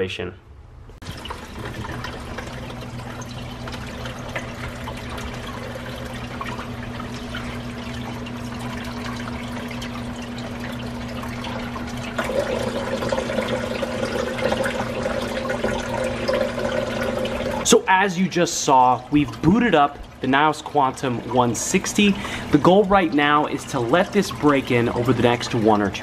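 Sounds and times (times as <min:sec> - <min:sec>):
higher pump hum: 0:00.9 - 0:26.0
low pump hum: 0:00.9 - 0:26.0
water splashing and fizzing: 0:01.0 - 0:26.0.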